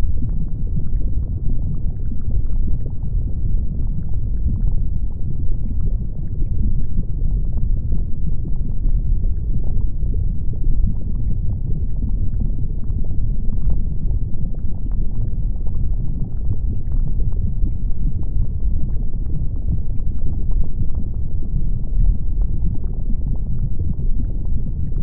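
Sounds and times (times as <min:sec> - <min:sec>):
deep volcanic rumble: 0:00.0 - 0:25.0
lava crackles and pops: 0:00.0 - 0:25.0.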